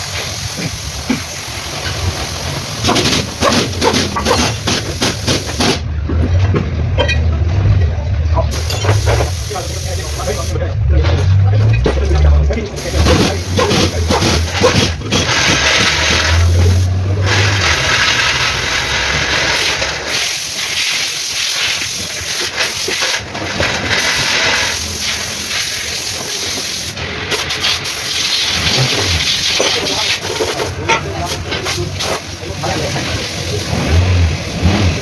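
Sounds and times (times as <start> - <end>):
loud hissing noise: 0.0 - 5.9, 8.4 - 35.0.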